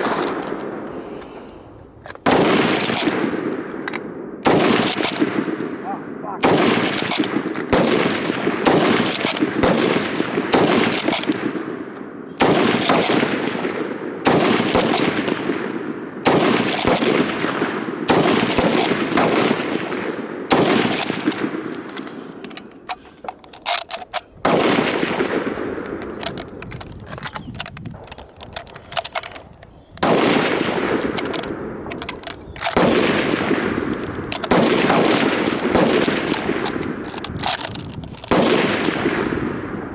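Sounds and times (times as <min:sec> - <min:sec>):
rifle reloading clicks: 0:00.0 - 0:39.8
rifle shots echoing: 0:00.0 - 0:39.9.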